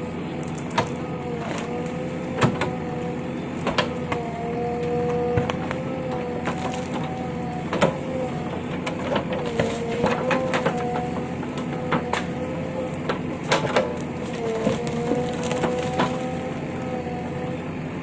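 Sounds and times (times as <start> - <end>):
excavator engine whine: 0.0 - 18.0.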